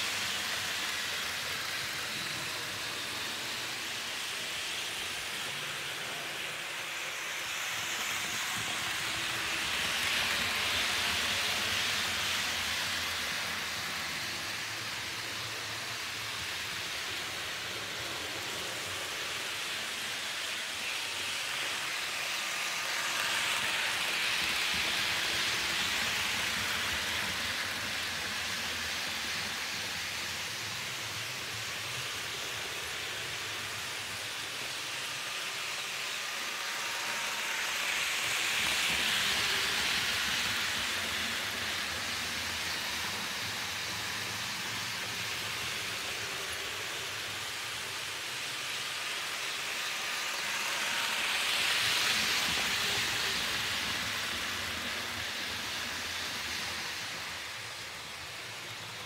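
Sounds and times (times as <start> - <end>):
model trains whirring on track: 0.0 - 59.0.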